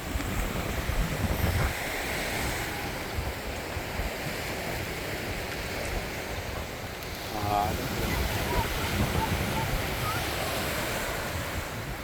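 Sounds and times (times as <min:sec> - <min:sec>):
ocean surf hissing: 0:00.0 - 0:12.0
wind buffeting microphone: 0:00.0 - 0:12.0.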